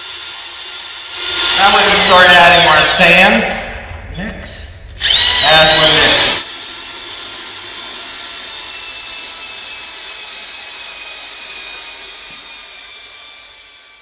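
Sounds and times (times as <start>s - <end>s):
mixer drill motor whine: 0.0s - 3.0s, 5.0s - 14.0s.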